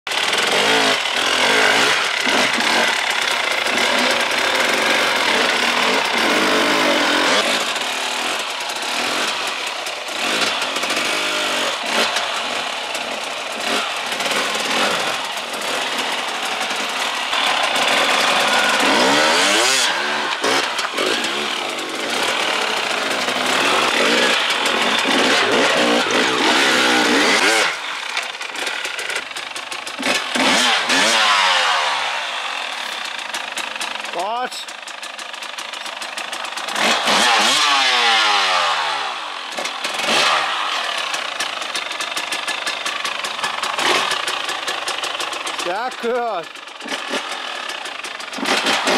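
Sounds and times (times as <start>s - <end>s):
motorcycle engine revving: 0.1s - 48.9s.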